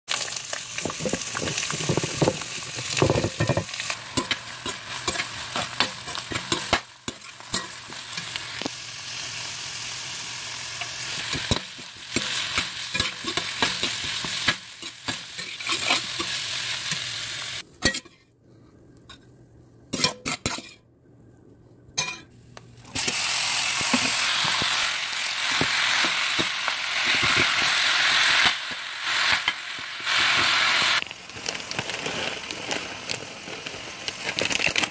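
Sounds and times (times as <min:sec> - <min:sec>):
meat frying: 0:00.1 - 0:17.6, 0:22.9 - 0:34.9
vegetables sizzling in a pot: 0:00.1 - 0:17.6, 0:22.8 - 0:34.9.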